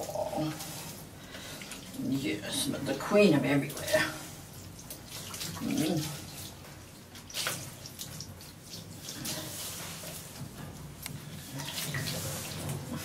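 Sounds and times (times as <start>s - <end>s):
water splashing in a tub: 0.0s - 13.0s.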